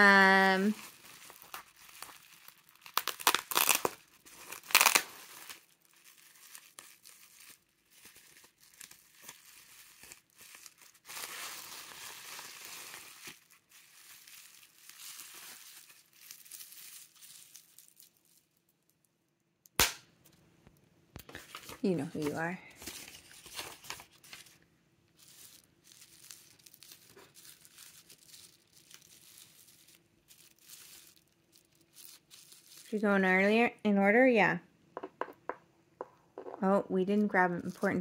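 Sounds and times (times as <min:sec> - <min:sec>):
bubble wrap crinkling: 0:00.0 - 0:19.2, 0:21.2 - 0:33.4, 0:35.0 - 0:38.0.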